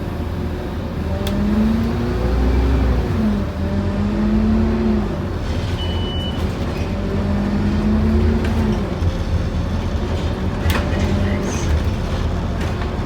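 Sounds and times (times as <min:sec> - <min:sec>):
bus engine with rising whine: 0:00.0 - 0:13.0.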